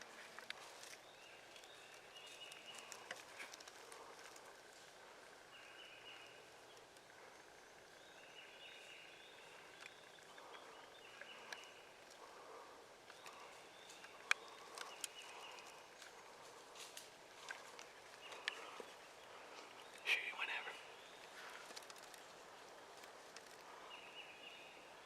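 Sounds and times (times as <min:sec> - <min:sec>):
faint songbird chirps: 0:00.0 - 0:25.0
light ticks and rustles: 0:00.0 - 0:25.0.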